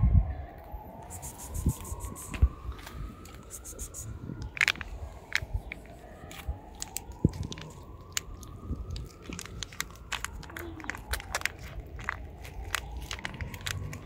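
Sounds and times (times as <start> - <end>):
cat chewing and licking food: 1.2 - 14.0.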